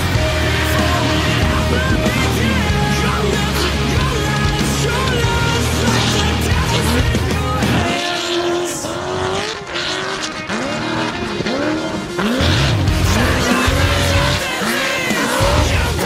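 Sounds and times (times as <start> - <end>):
truck engines revving hard: 0.0 - 16.0.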